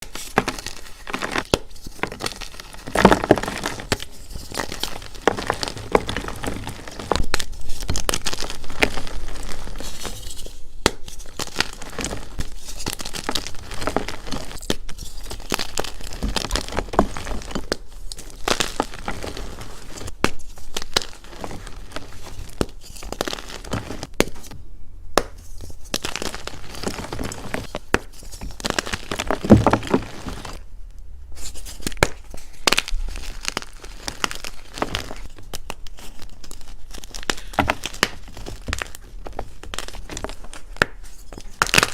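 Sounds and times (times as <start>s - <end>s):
chalk crunching and crackling: 0.0s - 24.6s, 25.2s - 30.6s, 31.4s - 41.9s.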